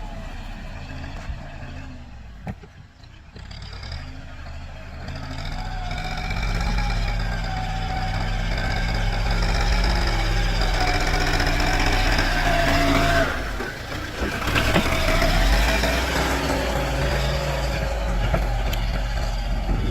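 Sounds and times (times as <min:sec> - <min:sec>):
diesel tractor engine running: 0:00.0 - 0:19.9.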